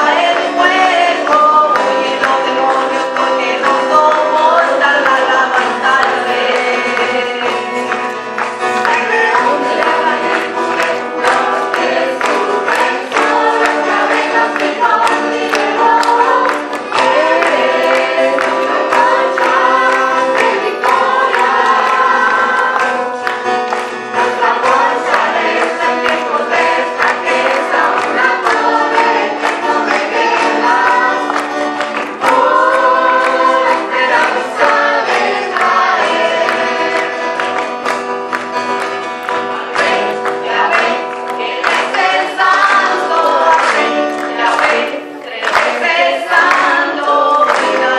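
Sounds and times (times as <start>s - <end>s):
choir singing: 0.0s - 37.8s, 39.2s - 47.9s
guitar strumming: 0.0s - 47.9s.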